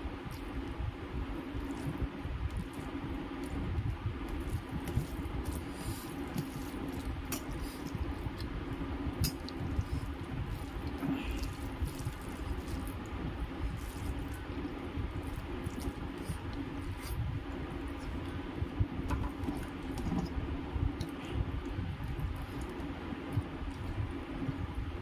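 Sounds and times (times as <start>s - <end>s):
wet squishing of rice: 0.0s - 20.1s, 20.8s - 25.0s.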